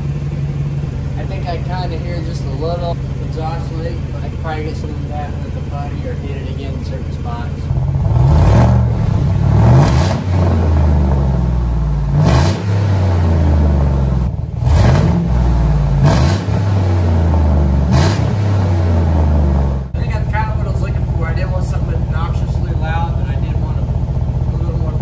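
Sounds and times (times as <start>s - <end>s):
loud low engine idle: 0.0s - 25.0s
truck engine revving: 0.0s - 25.0s.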